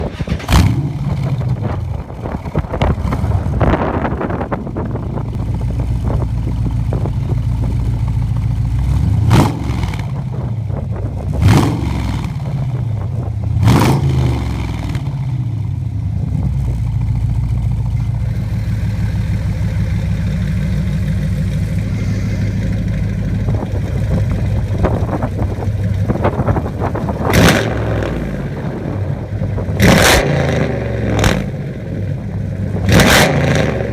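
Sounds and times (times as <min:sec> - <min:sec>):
car engine idling: 0:00.0 - 0:11.5, 0:12.1 - 0:29.9, 0:30.8 - 0:33.0.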